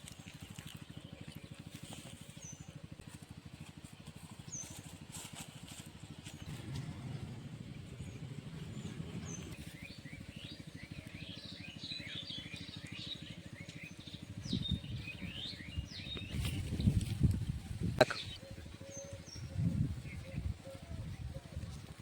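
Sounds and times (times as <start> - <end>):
small birds chirping: 0.0 - 22.0
steady low rumble: 3.8 - 22.0.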